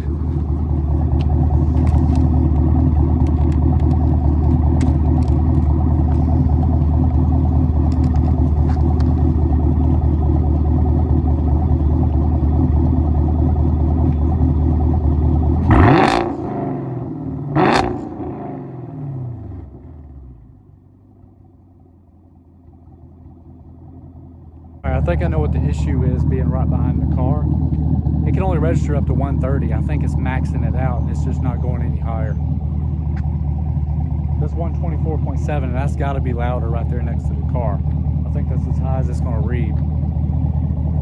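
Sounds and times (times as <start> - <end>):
car engine revving: 0.0 - 20.5, 24.8 - 41.0
car engine idling: 0.0 - 41.0.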